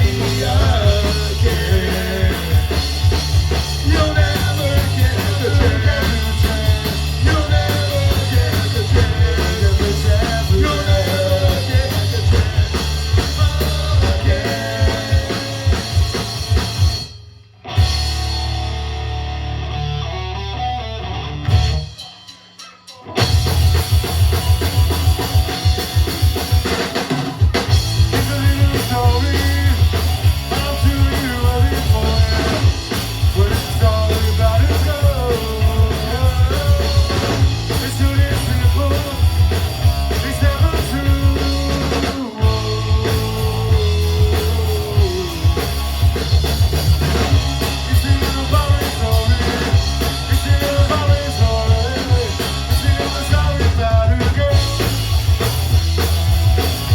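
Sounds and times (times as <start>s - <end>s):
rock band playing: 0.0s - 56.9s.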